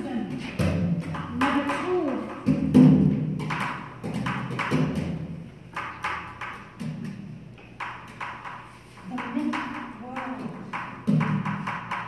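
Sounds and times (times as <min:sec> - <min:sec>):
percussive knocks and thumps: 0:00.3 - 0:12.0.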